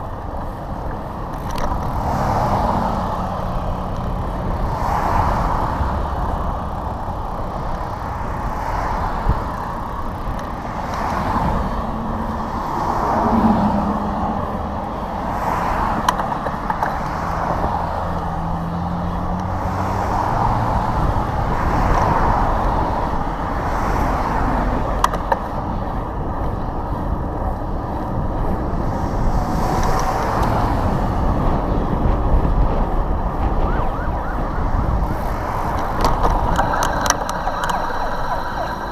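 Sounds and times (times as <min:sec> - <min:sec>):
cars and trucks passing: 0:00.0 - 0:38.9
wind buffeting microphone: 0:00.0 - 0:38.9.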